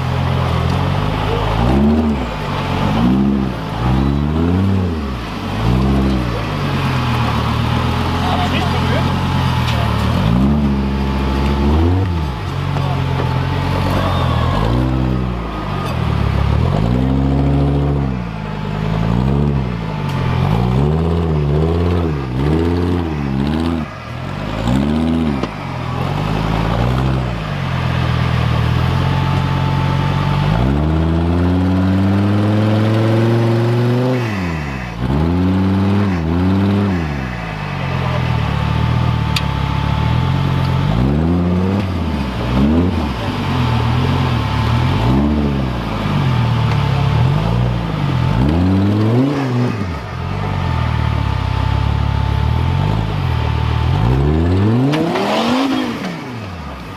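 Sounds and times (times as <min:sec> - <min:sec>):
racing vehicle engine revving: 0:00.0 - 0:56.9.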